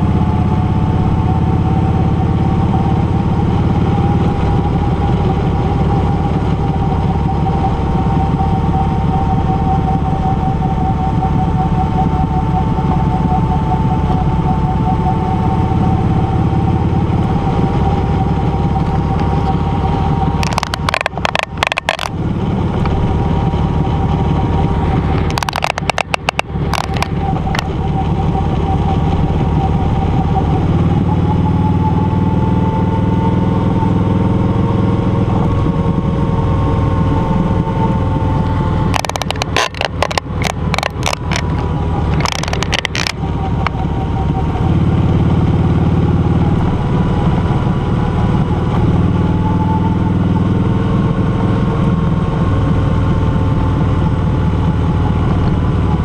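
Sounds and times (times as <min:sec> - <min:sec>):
motorcycle running: 0:00.0 - 0:56.0.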